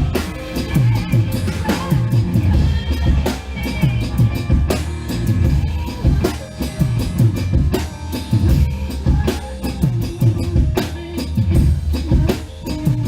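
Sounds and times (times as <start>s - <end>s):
drum kit playing: 0.0s - 13.0s
recorded song: 0.0s - 13.0s.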